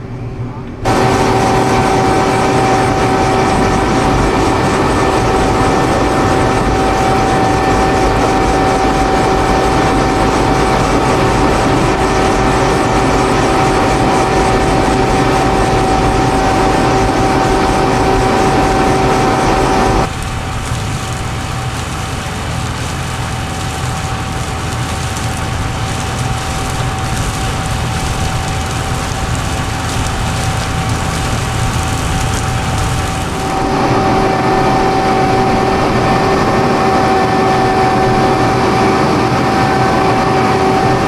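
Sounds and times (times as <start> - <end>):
harvester engine and machinery: 0.8 - 35.2
steady machine whine: 0.8 - 41.0.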